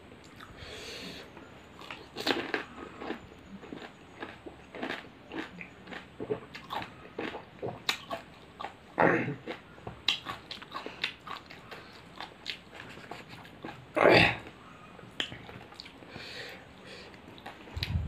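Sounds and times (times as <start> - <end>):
crunchy chewing: 0.2 - 18.0.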